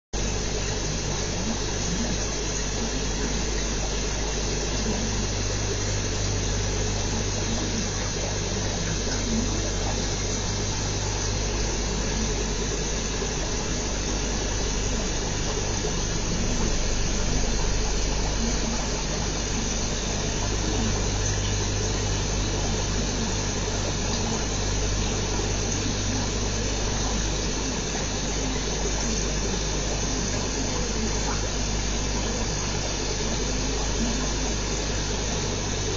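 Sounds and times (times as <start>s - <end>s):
low pump hum: 0.2s - 35.9s.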